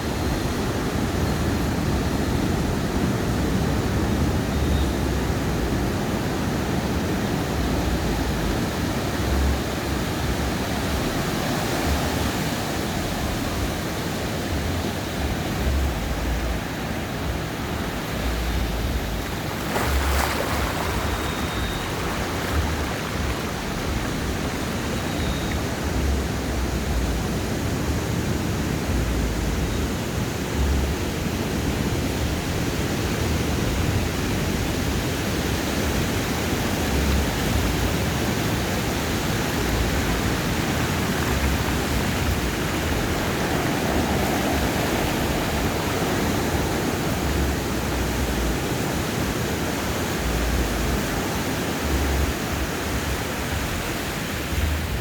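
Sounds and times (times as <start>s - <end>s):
ocean waves breaking: 0.0s - 27.7s, 33.2s - 55.0s.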